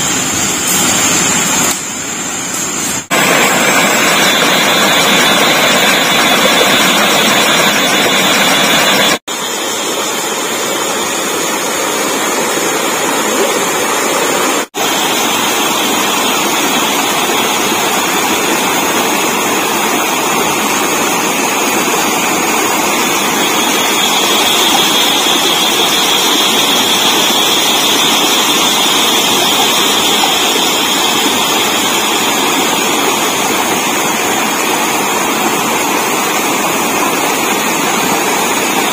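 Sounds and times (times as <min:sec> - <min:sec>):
stream rushing over rocks: 0:03.1 - 0:38.9.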